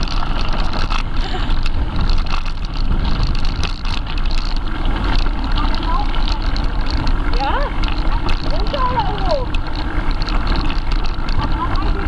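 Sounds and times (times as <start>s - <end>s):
bike rattles and clicks: 0.0s - 12.0s
tyres rumbling on gravel: 0.0s - 12.0s.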